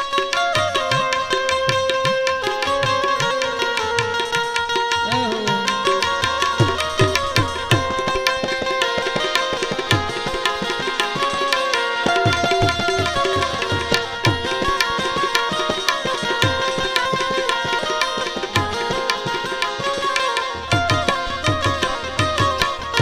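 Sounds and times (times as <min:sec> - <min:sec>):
harmonium holding notes: 0:00.0 - 0:23.0
tabla playing: 0:00.0 - 0:23.0.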